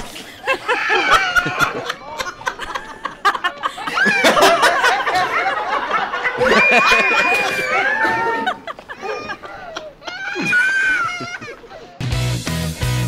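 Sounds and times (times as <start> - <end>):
canned laughter: 0.3 - 12.0.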